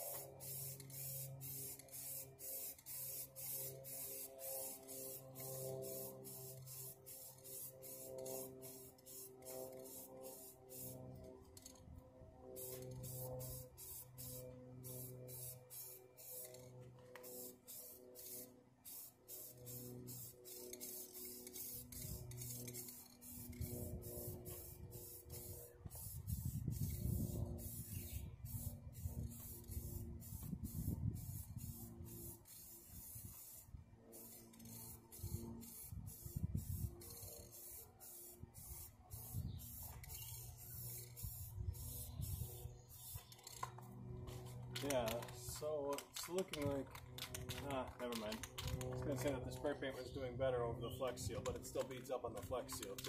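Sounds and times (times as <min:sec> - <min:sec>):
spray paint can hissing: 0:00.0 - 0:11.8, 0:12.6 - 0:49.4, 0:51.0 - 0:53.0.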